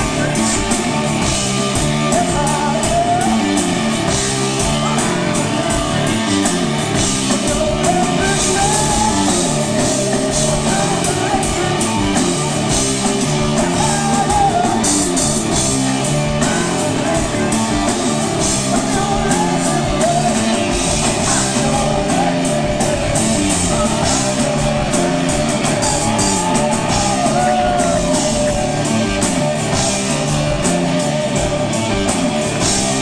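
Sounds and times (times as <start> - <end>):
bass guitar: 0.0 - 33.0
distorted electric guitar: 0.0 - 33.0
drum kit with cymbal hits: 0.0 - 33.0
man singing: 0.0 - 33.0.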